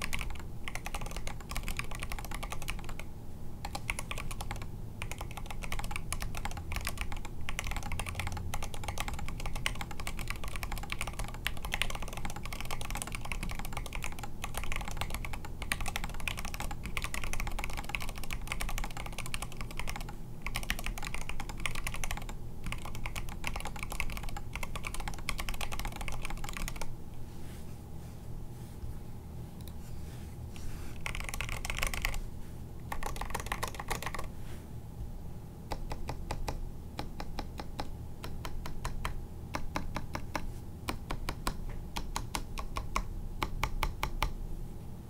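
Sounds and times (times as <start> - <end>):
mechanical keyboard typing: 0.0 - 26.9, 31.0 - 32.2, 32.9 - 34.3, 35.7 - 44.4.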